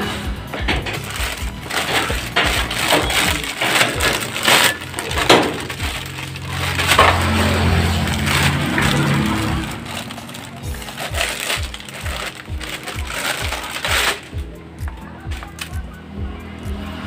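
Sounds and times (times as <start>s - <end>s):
plastic bag crinkling: 0.7s - 14.4s.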